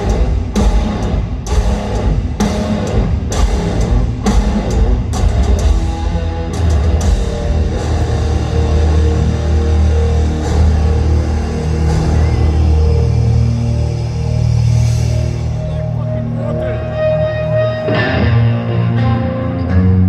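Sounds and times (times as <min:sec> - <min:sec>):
heavy metal band playing live: 0:00.0 - 0:20.0.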